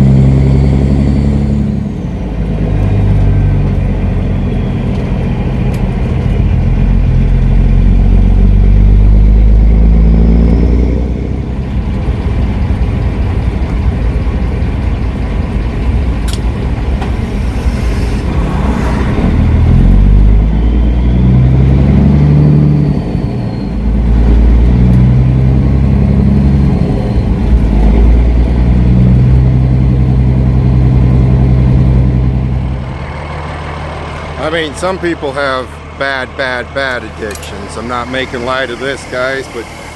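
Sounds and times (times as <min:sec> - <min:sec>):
diesel truck engine revving: 0:00.0 - 0:39.9.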